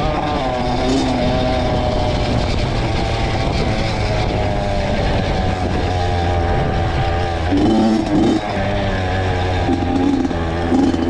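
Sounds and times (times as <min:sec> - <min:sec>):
two-stroke dirt bike engine running: 0:00.0 - 0:11.0.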